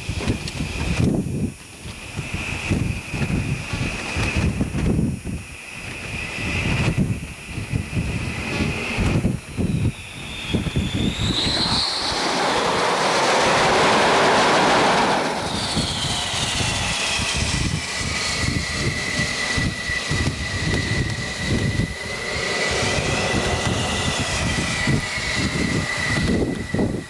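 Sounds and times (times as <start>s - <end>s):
jet engine roar: 0.0s - 27.0s
turbine whine: 0.0s - 27.0s
wind buffeting microphone: 0.0s - 27.0s.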